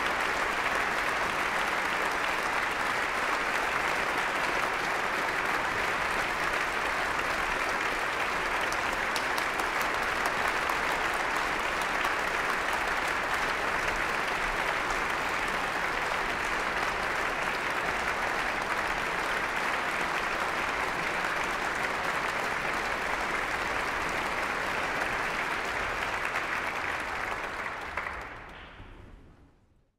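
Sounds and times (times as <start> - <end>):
audience applauding: 0.0 - 28.9.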